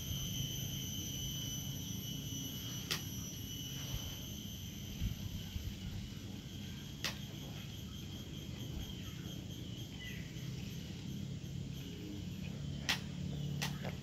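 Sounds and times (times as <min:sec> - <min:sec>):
faint steady hum: 0:00.0 - 0:14.0
insects trilling: 0:00.0 - 0:14.0.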